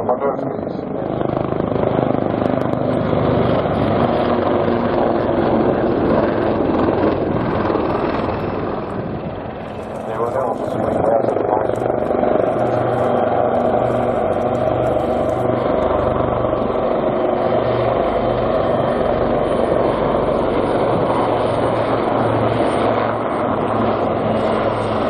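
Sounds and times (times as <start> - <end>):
helicopter rotor and engine noise: 0.0 - 25.0
high turbine whine: 0.0 - 25.0.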